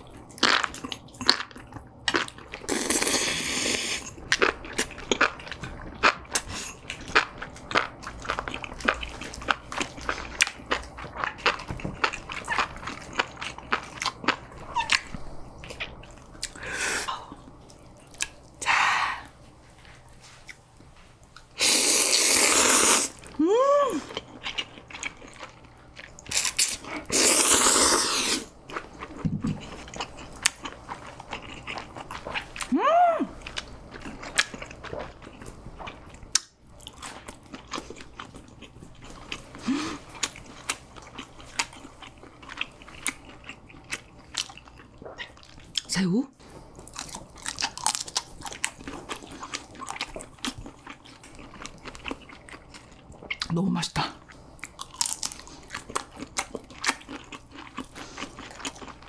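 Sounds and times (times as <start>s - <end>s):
chewing and biting food: 0.0s - 16.6s, 24.1s - 32.7s, 33.4s - 45.9s, 46.7s - 53.5s, 54.2s - 59.0s.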